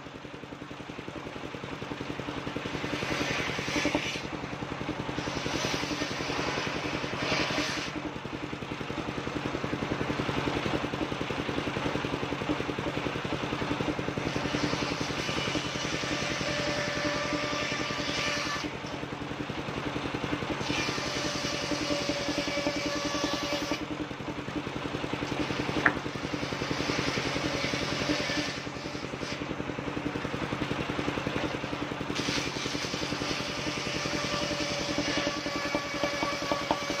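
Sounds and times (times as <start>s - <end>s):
circular saw cutting wood: 0.8s - 37.0s.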